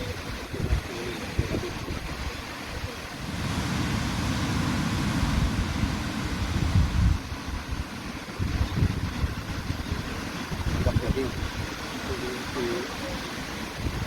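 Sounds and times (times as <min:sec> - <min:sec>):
ocean surf washing on beach: 0:00.0 - 0:14.0
wind rumbling on microphone: 0:00.0 - 0:14.0.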